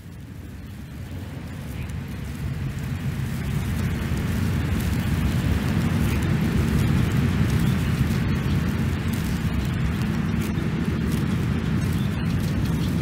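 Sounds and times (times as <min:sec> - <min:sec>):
low steady rumbling: 0:00.0 - 0:13.0.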